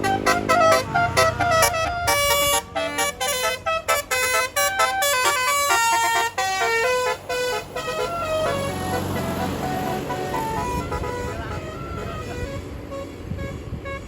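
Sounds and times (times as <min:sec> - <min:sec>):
multi-note air horn tune: 0:00.0 - 0:14.0.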